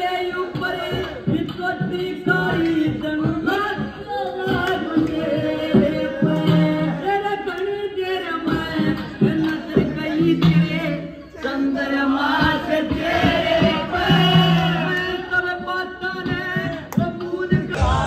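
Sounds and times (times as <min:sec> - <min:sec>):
dance music with singing: 0:00.0 - 0:18.0.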